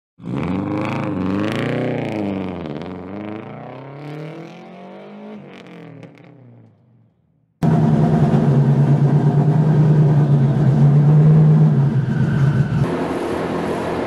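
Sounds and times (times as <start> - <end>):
car engine revving: 0.2 - 6.8, 7.6 - 14.0.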